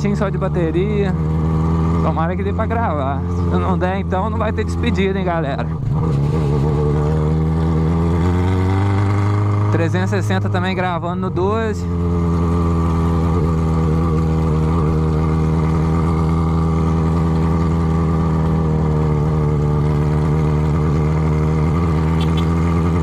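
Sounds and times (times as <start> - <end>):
motorcycle engine running loud: 0.0 - 23.0.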